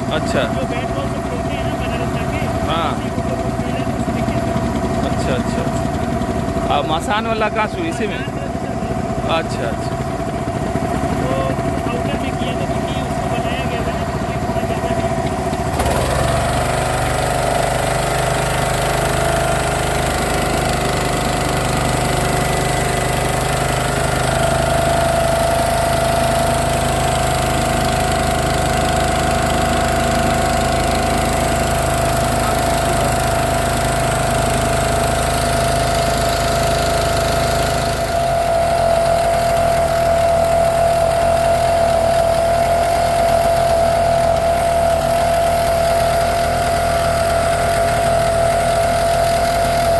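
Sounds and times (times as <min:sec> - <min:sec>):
motorboat engine running: 0:00.0 - 0:49.9.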